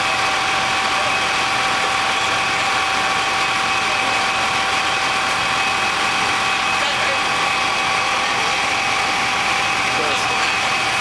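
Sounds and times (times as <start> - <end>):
constant high whine: 0.0 - 11.0
fire engine idling: 0.0 - 11.0.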